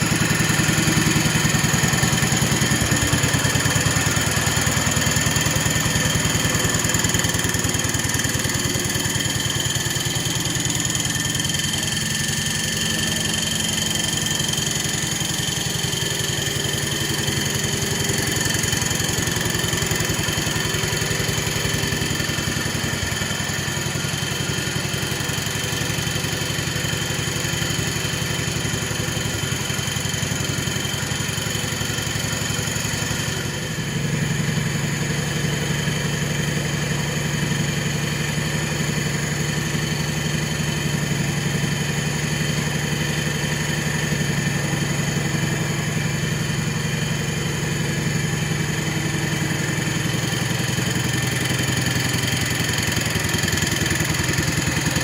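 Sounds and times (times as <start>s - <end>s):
garden tractor engine running: 0.0s - 55.0s.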